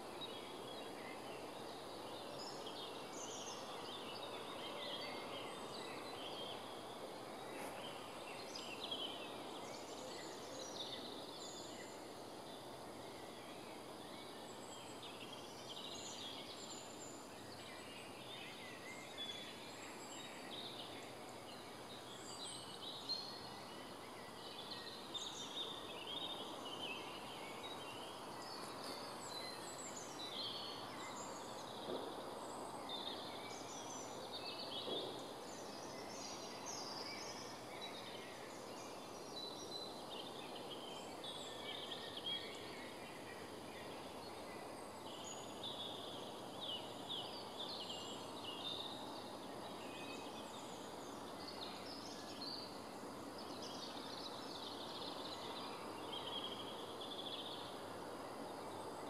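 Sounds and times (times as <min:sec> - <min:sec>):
songbirds singing: 0:00.0 - 0:59.0
steady background hiss: 0:00.0 - 0:59.0.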